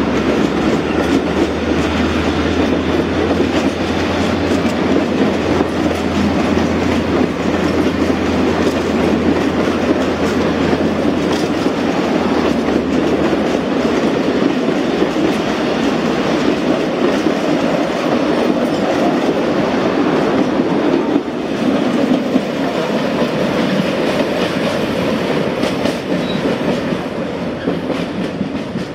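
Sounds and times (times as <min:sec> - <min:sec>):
train wheels on rails: 0:00.0 - 0:28.9.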